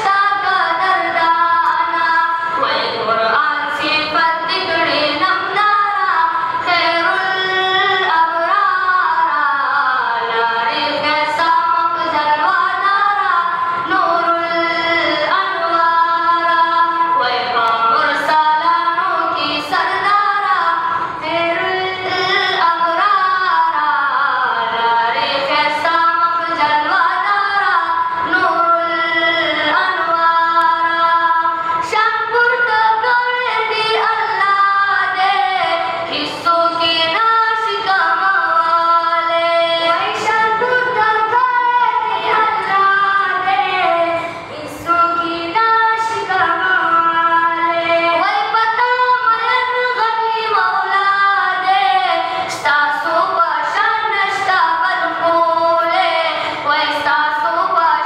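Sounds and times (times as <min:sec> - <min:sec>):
boys singing into a microphone: 0:00.0 - 0:58.0.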